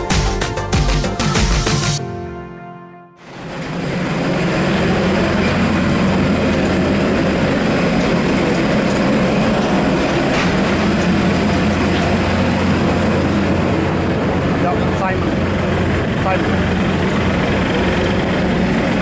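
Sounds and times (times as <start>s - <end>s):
engine and tyre rumble: 3.3s - 19.0s.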